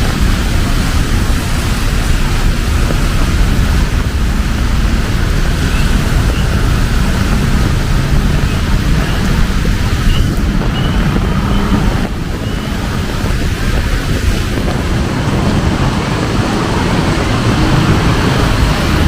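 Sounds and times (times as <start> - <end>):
heavy rain: 0.0 - 19.0
wind rumbling on microphone: 0.0 - 19.0.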